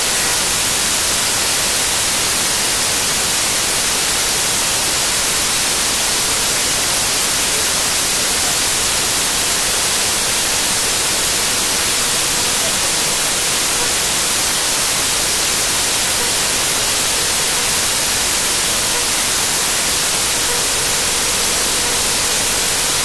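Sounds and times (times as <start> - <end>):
static hiss: 0.0 - 23.0.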